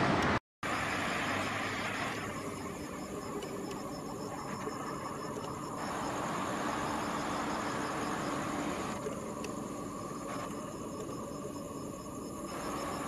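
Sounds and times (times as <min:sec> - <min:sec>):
background hiss: 0:00.1 - 0:13.0
crickets chirping: 0:00.6 - 0:13.0.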